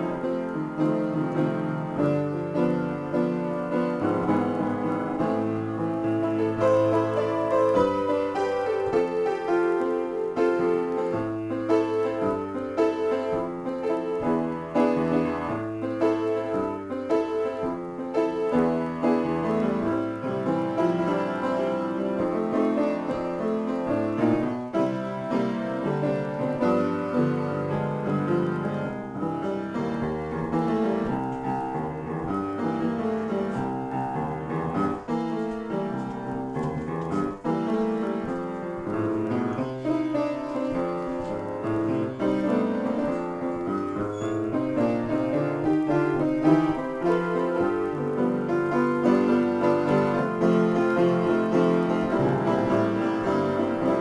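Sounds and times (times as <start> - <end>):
upright piano improvisation: 0.0 - 54.0.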